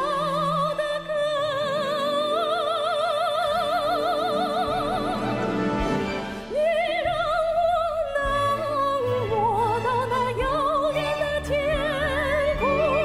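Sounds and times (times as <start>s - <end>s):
symphony orchestra with bowed strings: 0.0s - 13.0s.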